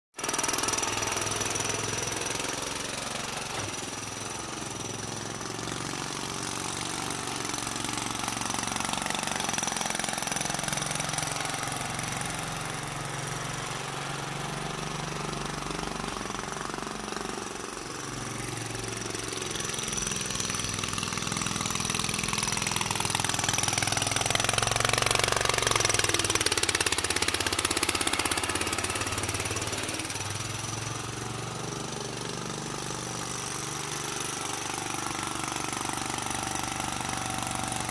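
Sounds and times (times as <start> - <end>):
small engine chugging: 0.2 - 37.9.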